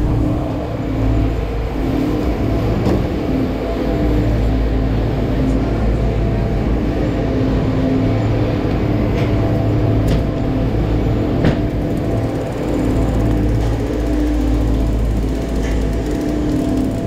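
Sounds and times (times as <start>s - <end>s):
machinery humming and rumbling: 0.0s - 17.0s.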